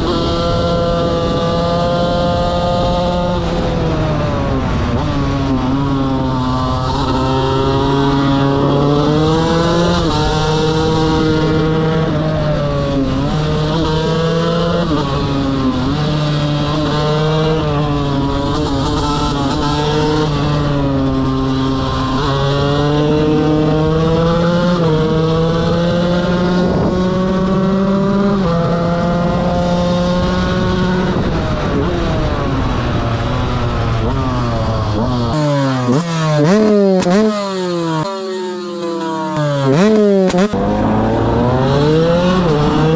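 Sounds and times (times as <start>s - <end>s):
motorcycle engine revving hard: 0.0s - 42.9s.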